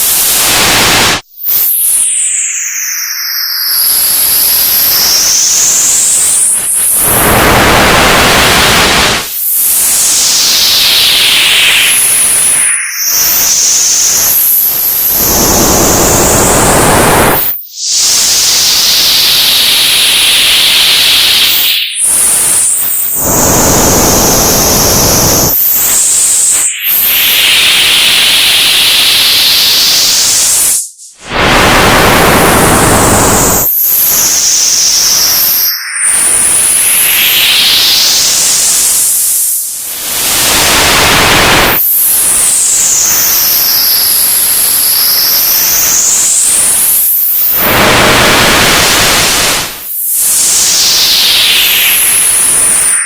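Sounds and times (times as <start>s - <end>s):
high whistling tones: 1.4s - 53.0s.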